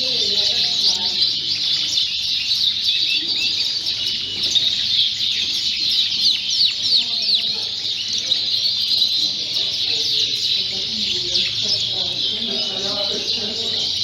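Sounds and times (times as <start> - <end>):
canaries singing and chirping: 0.0 - 14.0
faint voices murmuring: 0.0 - 14.0.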